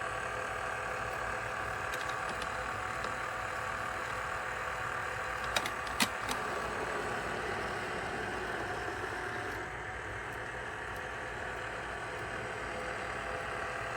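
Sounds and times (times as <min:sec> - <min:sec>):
robot vacuum motor hum: 0:00.0 - 0:13.9.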